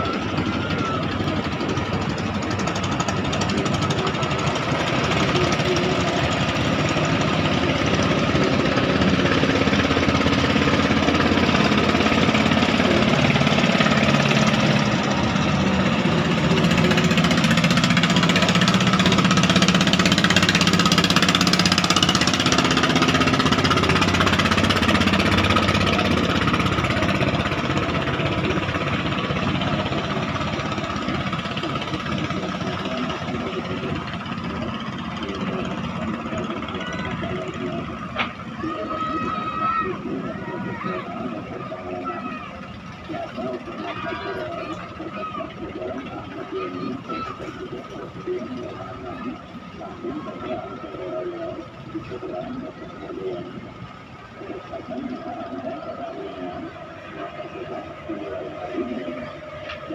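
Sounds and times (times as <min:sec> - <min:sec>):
boat diesel engine chugging: 0:00.0 - 0:59.9.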